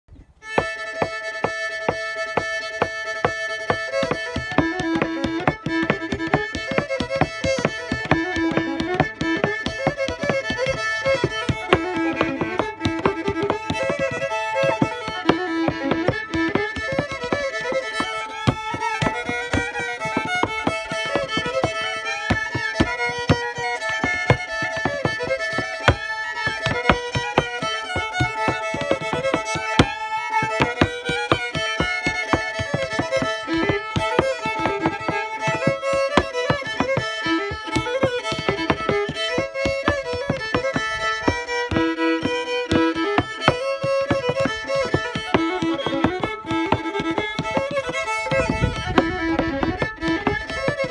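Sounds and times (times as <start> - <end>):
solo fiddle tune: 0.2 - 50.9
boots step-dancing on plywood: 0.4 - 50.9.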